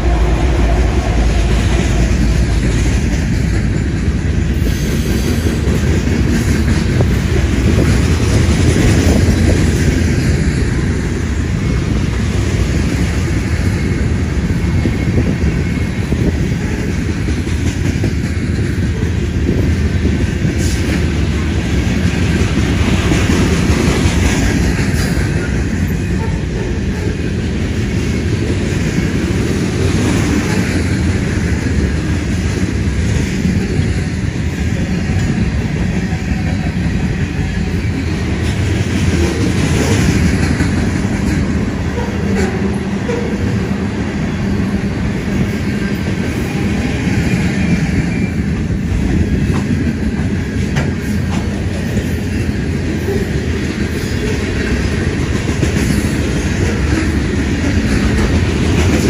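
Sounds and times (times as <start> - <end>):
freight train wheels rumbling: 0.0 - 59.0
wheels clickety-clack: 1.2 - 43.6, 45.2 - 59.0.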